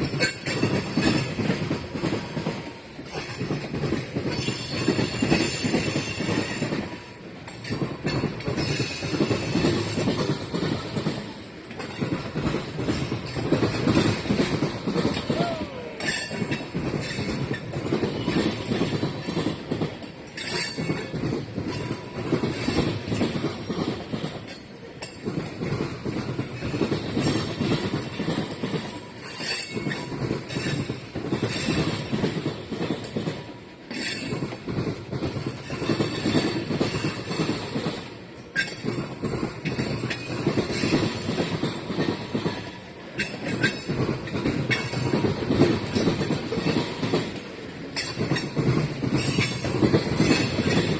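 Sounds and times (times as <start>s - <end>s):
train wheels clacking over rail joints: 0.0s - 50.9s.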